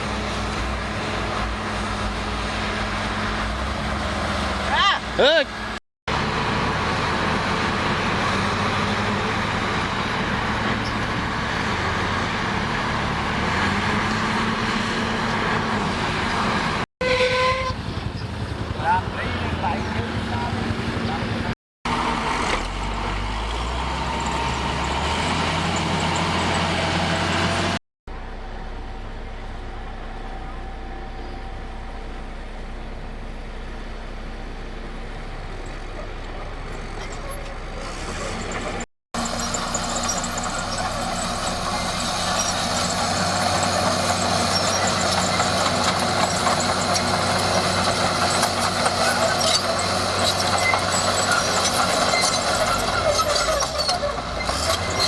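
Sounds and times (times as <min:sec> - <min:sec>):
heavy diesel engine running: 0:00.0 - 0:16.8, 0:17.8 - 0:55.0.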